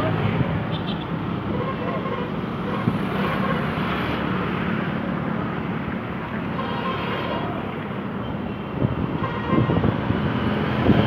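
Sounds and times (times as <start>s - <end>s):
bus engines running: 0.0s - 11.0s
traffic noise: 0.0s - 11.0s.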